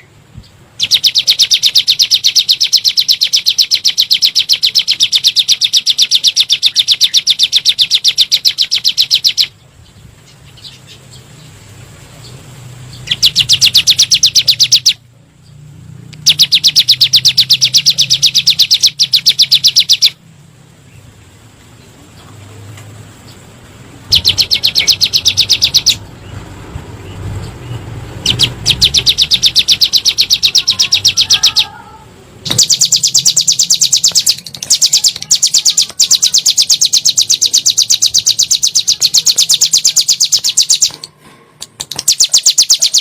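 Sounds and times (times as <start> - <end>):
bird singing rapid sharp notes: 0.0 - 20.2, 23.2 - 31.8, 32.4 - 41.1, 41.7 - 43.0.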